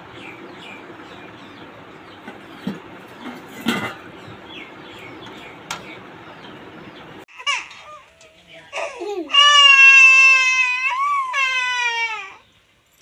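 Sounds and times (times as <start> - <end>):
small birds chirping: 0.0 - 9.2, 11.3 - 13.0.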